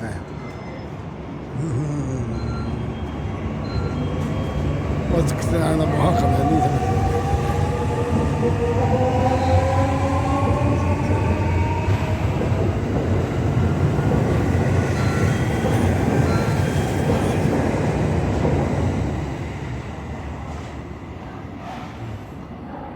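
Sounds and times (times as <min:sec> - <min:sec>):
train wheels rumbling on rails: 0:02.8 - 0:22.9.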